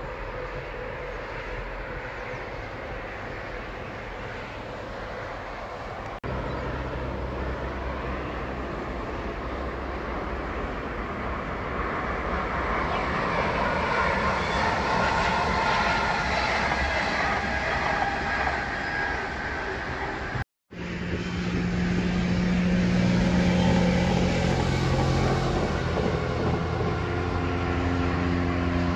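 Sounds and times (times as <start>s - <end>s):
low hum: 0.0s - 28.9s
rushing wheel noise: 0.0s - 28.9s
train passing: 0.0s - 28.9s.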